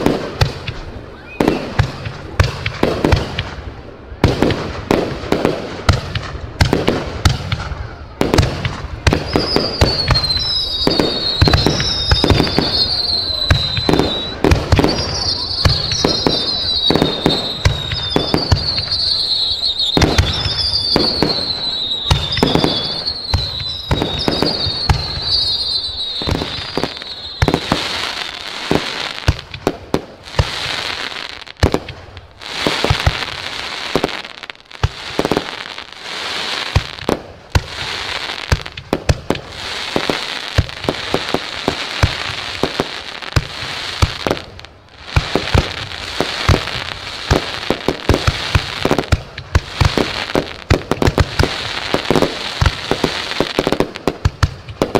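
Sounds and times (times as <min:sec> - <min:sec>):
firework whistles: 0:00.0 - 0:02.4, 0:07.2 - 0:54.9
fireworks bangs: 0:00.0 - 0:54.9
fireworks crackling: 0:00.0 - 0:54.9.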